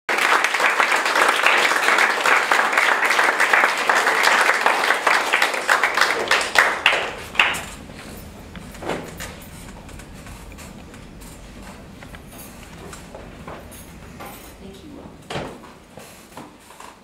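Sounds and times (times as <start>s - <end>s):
audience applauding: 0.1s - 14.0s.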